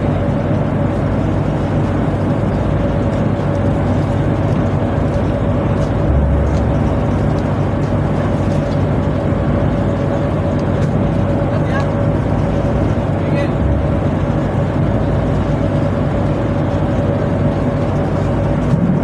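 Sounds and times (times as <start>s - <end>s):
boat machinery low drone: 0.0s - 19.0s
thin steady whine: 0.0s - 19.0s.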